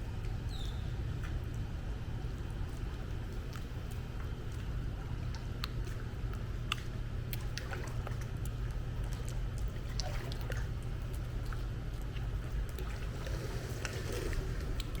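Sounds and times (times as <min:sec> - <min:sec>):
pool water dripping and lapping: 0:00.0 - 0:15.0
steady low rumble: 0:00.0 - 0:15.0.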